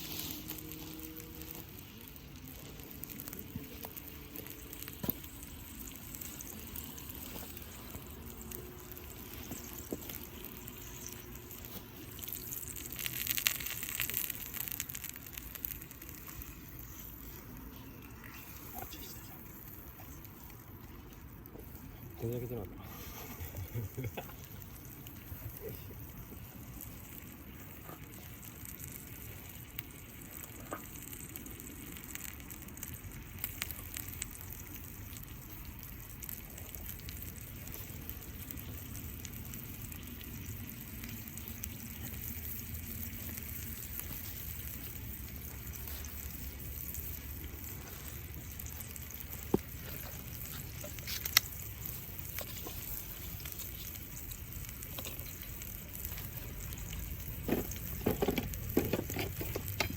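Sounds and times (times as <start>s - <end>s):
meat sizzling in a skillet: 0.0s - 59.9s.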